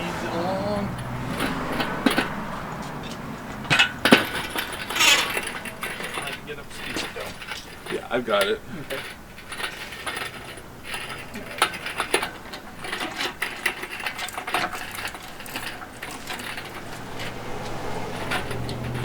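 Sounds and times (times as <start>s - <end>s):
chains clinking and rattling: 0.0s - 19.0s.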